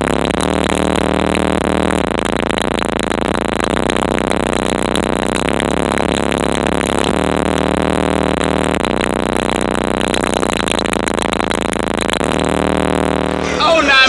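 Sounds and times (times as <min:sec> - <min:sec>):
distorted bass-heavy music: 0:00.0 - 0:14.0.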